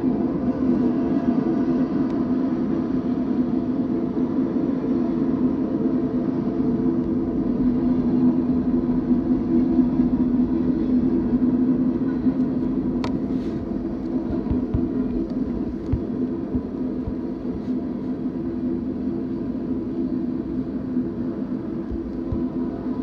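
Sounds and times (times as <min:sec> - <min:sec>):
freight train cars rumbling: 0:00.0 - 0:23.0
low even hum: 0:00.0 - 0:23.0.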